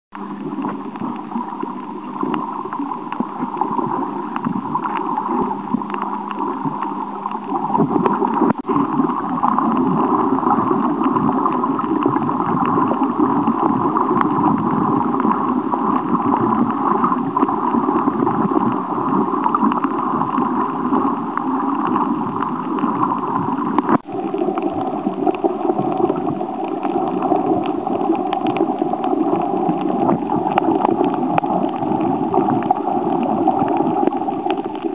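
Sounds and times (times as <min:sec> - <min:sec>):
muffled underwater gurgling: 0:00.1 - 0:34.9.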